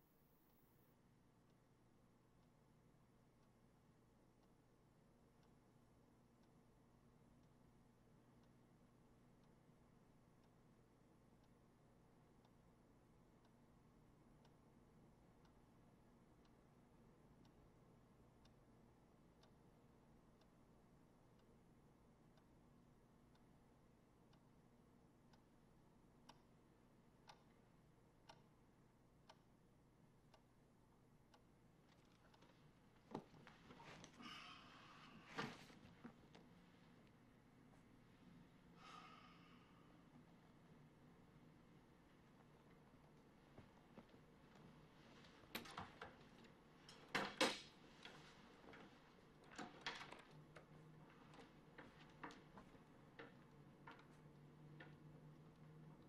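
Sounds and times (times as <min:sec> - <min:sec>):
wall clock ticking: 0:01.4 - 0:36.5, 0:40.4 - 0:56.0.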